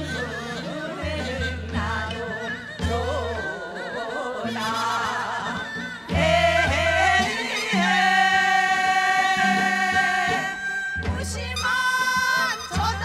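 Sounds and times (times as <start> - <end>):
women singing folk song: 0.0 - 13.0.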